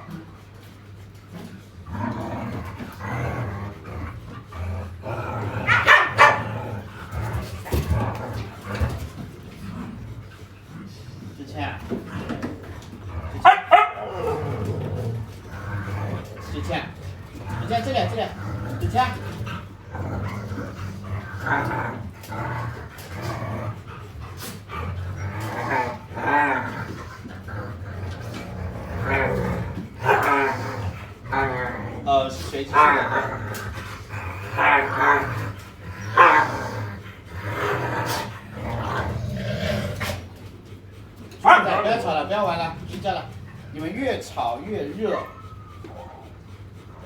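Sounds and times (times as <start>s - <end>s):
dogs barking and growling: 0.0s - 47.0s.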